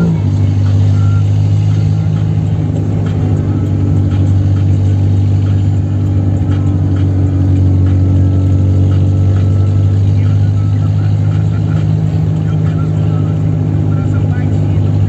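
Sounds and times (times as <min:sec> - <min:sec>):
car engine droning at high revs: 0:00.0 - 0:15.0.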